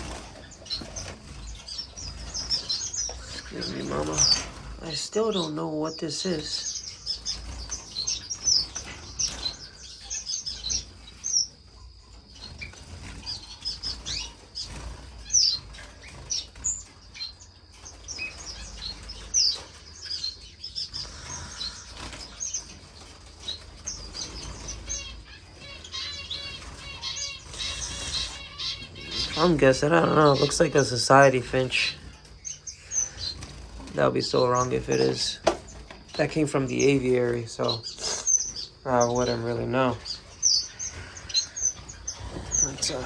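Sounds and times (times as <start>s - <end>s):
wings fluttering: 0.0s - 5.4s, 12.2s - 43.0s
finches chirping: 0.0s - 43.0s.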